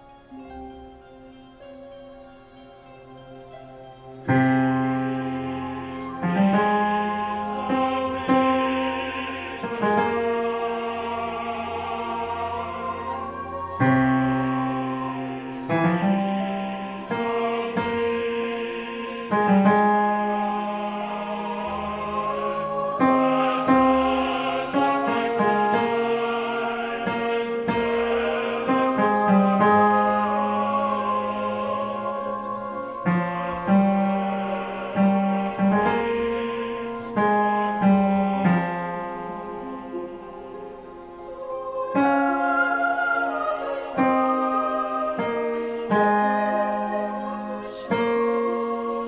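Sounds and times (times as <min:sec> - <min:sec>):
piano accompaniment: 0:00.0 - 0:49.0
tenor voice singing: 0:04.7 - 0:49.0.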